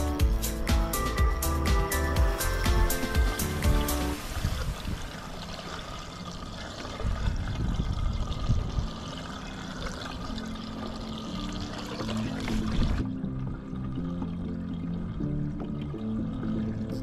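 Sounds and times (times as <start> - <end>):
waves lapping against a kayak: 3.0 - 17.0.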